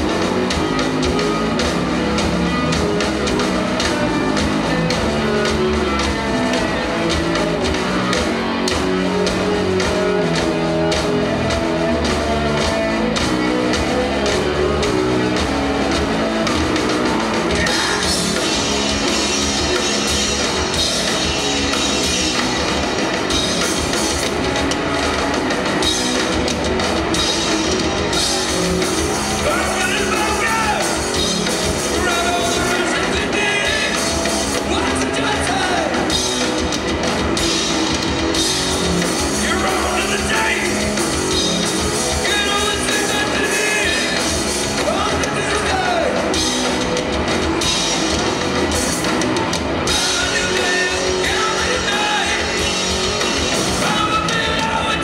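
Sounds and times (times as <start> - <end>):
bass guitar: 0.0 - 55.0
distorted electric guitar: 0.0 - 55.0
drum kit: 0.0 - 55.0.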